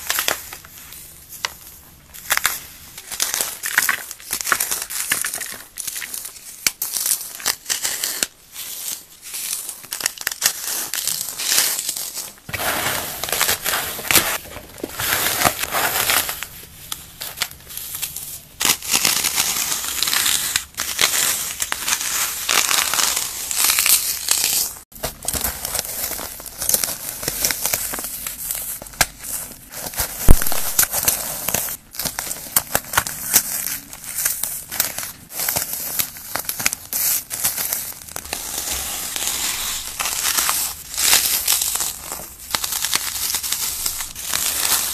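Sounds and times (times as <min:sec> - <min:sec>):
floral foam crunching: 0:05.8 - 0:44.9.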